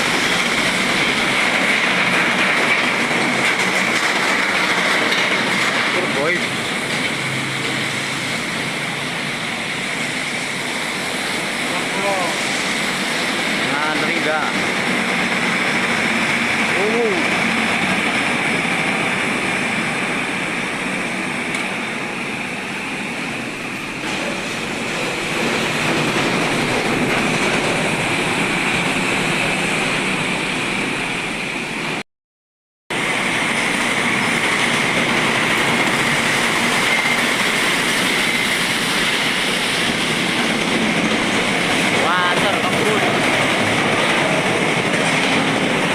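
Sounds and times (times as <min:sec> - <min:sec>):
trucks passing on wet road: 0:00.0 - 0:32.0, 0:32.9 - 0:45.9.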